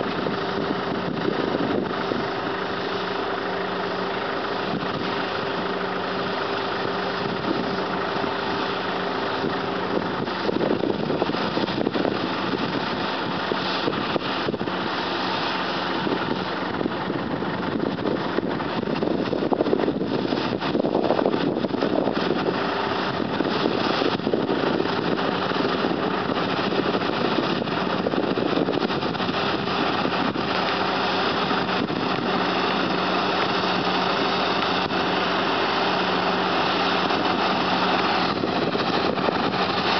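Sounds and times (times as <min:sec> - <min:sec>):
combine harvester engine hum: 0:00.0 - 0:39.9
rattling of cutting and threshing: 0:00.0 - 0:39.9.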